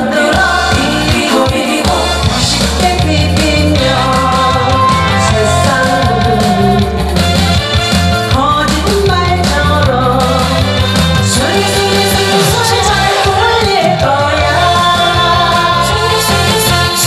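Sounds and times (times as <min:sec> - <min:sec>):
woman singing into a microphone: 0:00.0 - 0:07.3, 0:08.3 - 0:17.0
instrumental backing music: 0:00.0 - 0:17.0.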